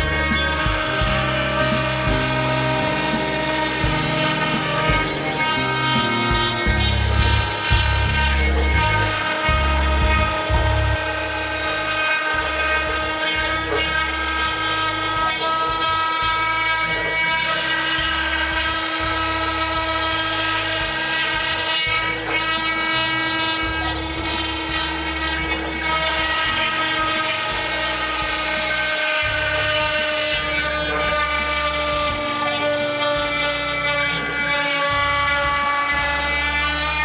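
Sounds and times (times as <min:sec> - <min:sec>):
drive motors humming: 0:00.0 - 0:37.0
router spindle whine: 0:00.0 - 0:37.0.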